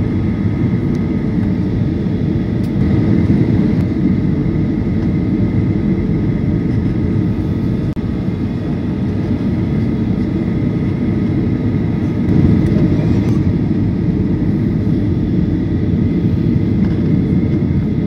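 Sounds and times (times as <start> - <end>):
faint high engine whine: 0.0 - 18.0
jet engine rumble and rushing air: 0.0 - 18.0.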